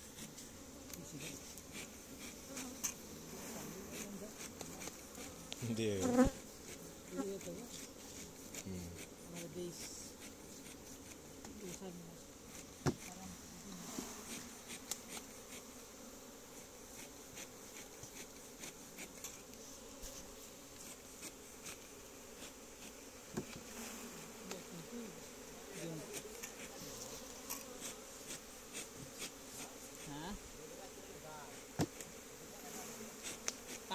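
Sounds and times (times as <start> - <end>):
honey bees buzzing: 0.0 - 33.9.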